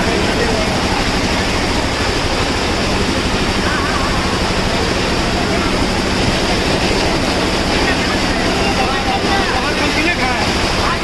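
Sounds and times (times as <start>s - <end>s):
motorbike road noise: 0.0s - 11.0s.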